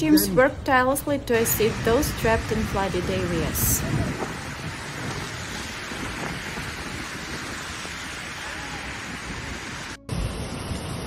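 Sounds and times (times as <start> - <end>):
storm wind: 0.0 - 11.0
wind buffeting microphone: 0.0 - 11.0
rain: 1.6 - 11.0
rushing floodwater: 1.7 - 11.0.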